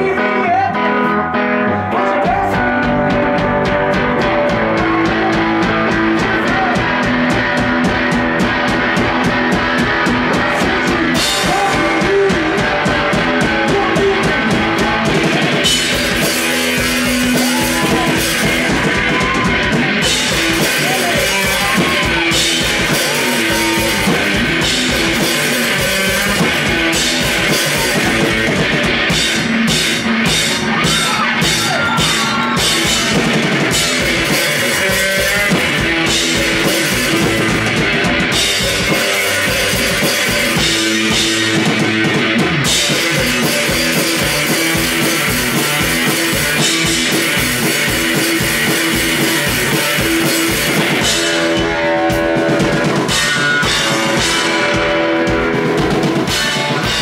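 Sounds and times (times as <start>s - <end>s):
electric guitar: 0.0s - 57.0s
drum kit beat: 2.0s - 57.0s.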